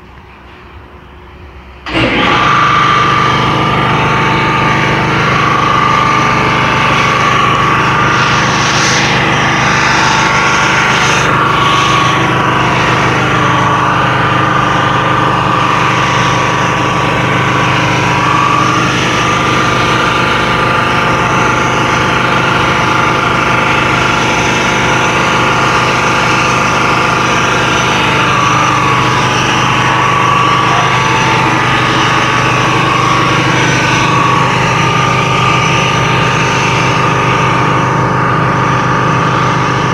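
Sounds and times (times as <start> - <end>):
motor droning with whining tones: 0.0 - 39.9.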